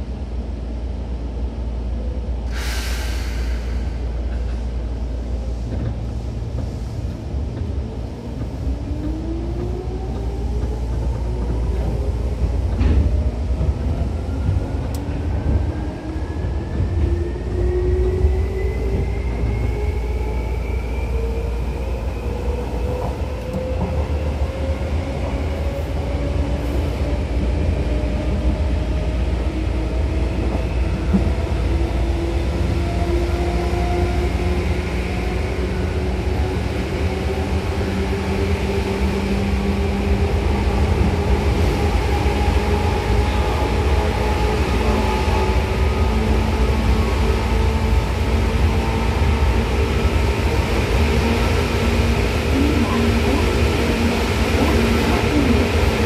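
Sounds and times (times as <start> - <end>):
train wheels rumbling on rails: 2.4 - 56.0.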